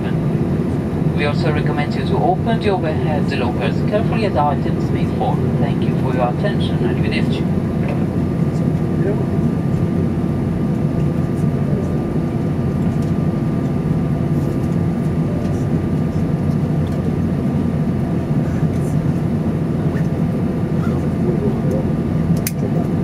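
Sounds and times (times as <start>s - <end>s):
jet engines idling rumble: 0.0s - 23.0s.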